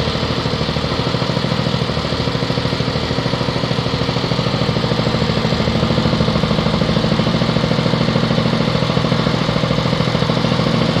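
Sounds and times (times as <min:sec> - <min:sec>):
small engine pulsing steadily: 0:00.0 - 0:11.0.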